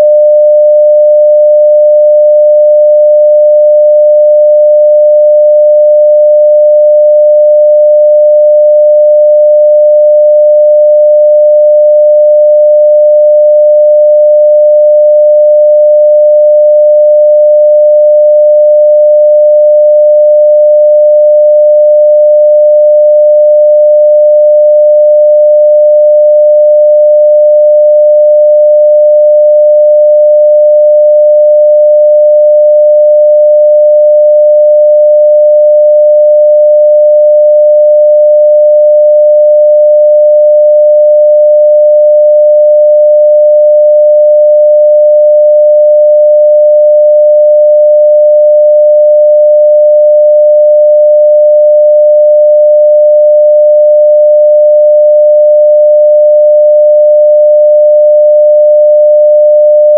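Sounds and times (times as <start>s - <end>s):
sine wave test tone: 0.0s - 59.9s.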